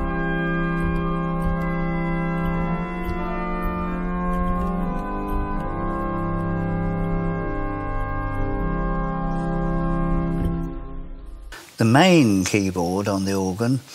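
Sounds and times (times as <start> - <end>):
pipe organ chords: 0.0 - 13.9.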